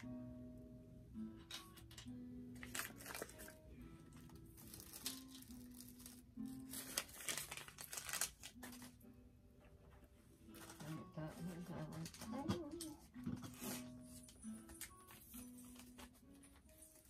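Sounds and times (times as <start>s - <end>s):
soft background music: 0.0s - 17.0s
plastic packaging crinkling: 1.4s - 9.0s, 10.5s - 17.0s.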